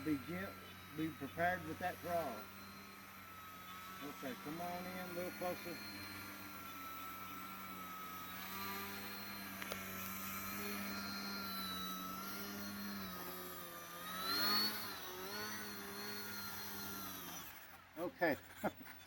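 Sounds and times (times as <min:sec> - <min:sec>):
model airplane motor whine: 0:00.0 - 0:19.0.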